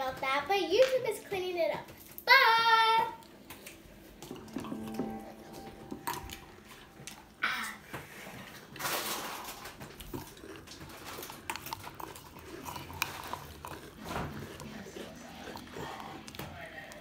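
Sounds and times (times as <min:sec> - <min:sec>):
mouth noises of eating: 0:03.1 - 0:17.0.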